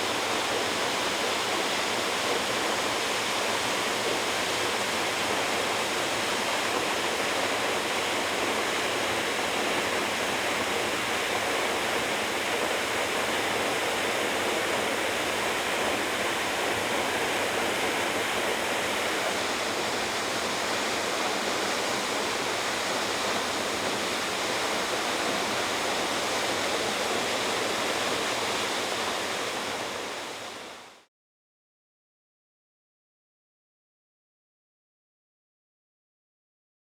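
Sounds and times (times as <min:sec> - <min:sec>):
waterfall roaring: 0:00.1 - 0:30.9.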